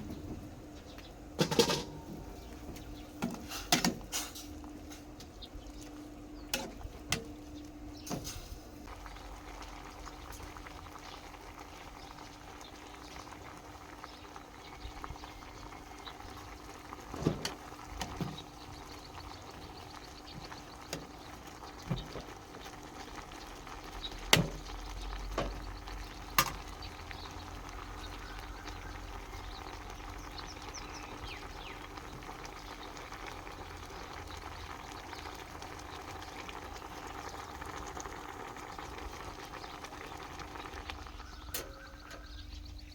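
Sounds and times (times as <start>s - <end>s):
pot boiling and bubbling: 0.0s - 42.9s.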